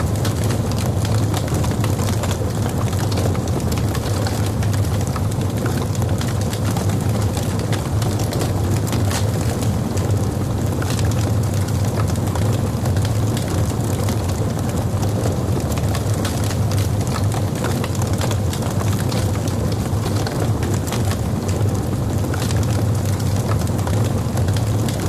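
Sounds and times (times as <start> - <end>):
fire crackling and popping: 0.0 - 25.0
fire roaring: 0.0 - 25.0.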